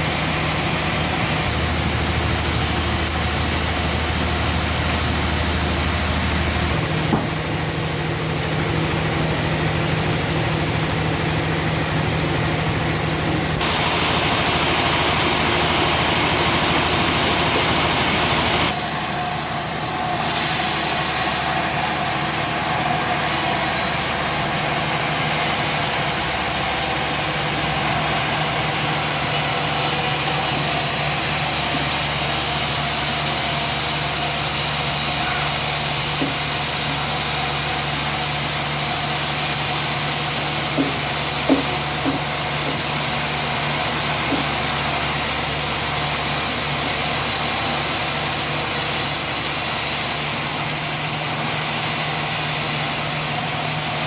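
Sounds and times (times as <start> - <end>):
constant hiss: 0.0 - 54.0
engine running: 0.0 - 54.0.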